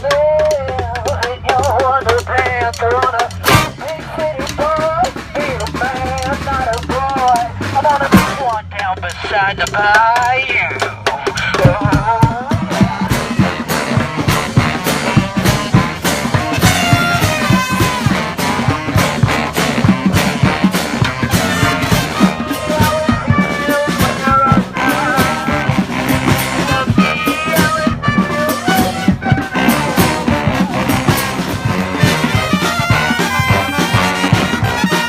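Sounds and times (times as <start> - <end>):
steady drum beat: 0.0 - 35.0
horns playing melody: 1.4 - 35.0.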